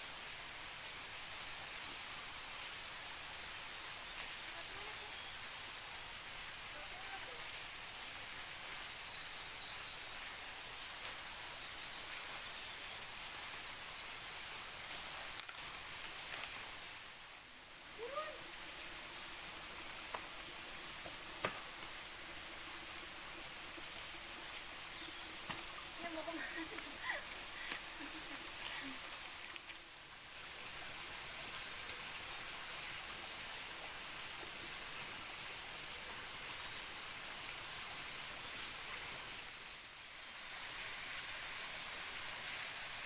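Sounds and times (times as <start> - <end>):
insect chorus drone: 0.0 - 43.0
soft background hiss: 0.0 - 43.0.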